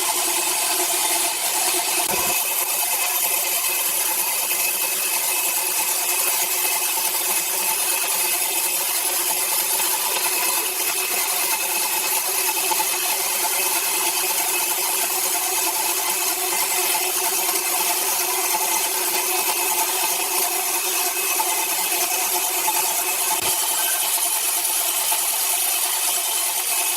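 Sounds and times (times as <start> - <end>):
power saw cutting wood: 0.0 - 26.9.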